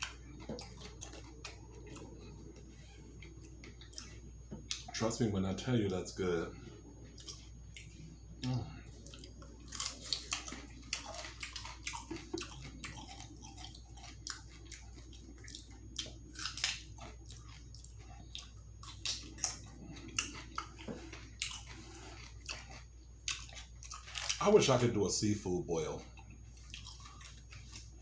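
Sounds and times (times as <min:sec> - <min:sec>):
person chewing food: 0:00.0 - 0:05.0, 0:06.5 - 0:24.4, 0:26.0 - 0:28.0.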